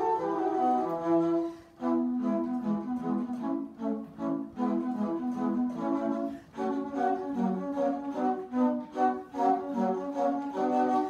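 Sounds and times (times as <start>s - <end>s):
flute trio playing: 0.0s - 11.0s.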